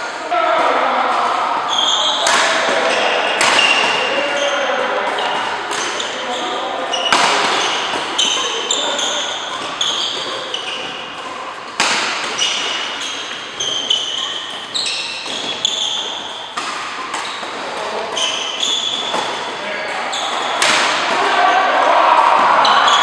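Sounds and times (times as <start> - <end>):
rackets hitting shuttlecock: 0.6 - 23.0
shoes squeaking on court: 1.6 - 21.7, 22.5 - 23.0.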